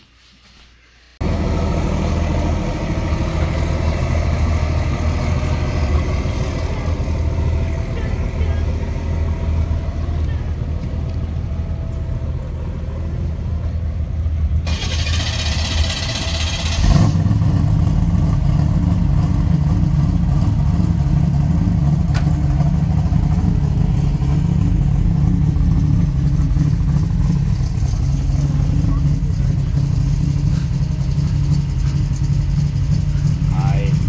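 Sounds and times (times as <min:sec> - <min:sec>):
car engine cranking and starting: 0:01.2 - 0:34.0.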